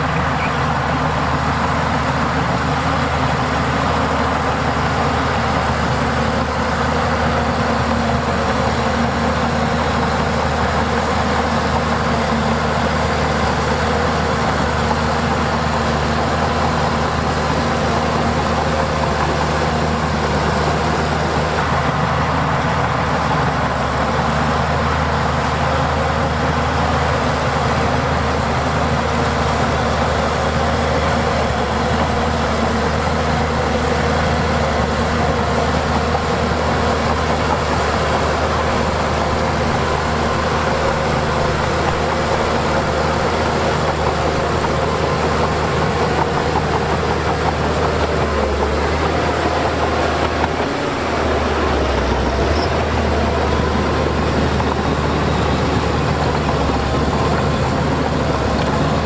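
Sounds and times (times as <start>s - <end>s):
diesel machinery engine running: 0.0s - 59.0s.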